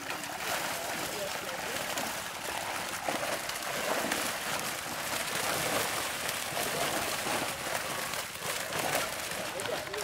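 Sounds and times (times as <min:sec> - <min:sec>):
fish splashing in water: 0:00.0 - 0:10.0.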